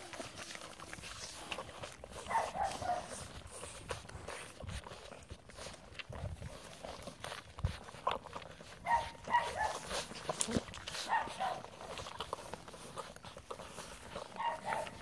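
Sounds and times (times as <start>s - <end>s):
puppies squeaking and whimpering: 0.0s - 15.0s.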